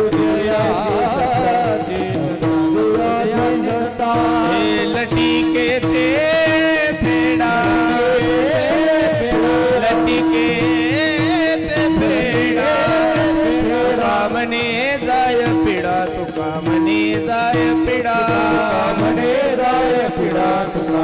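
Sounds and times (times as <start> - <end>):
percussion strokes: 0.0 - 21.0.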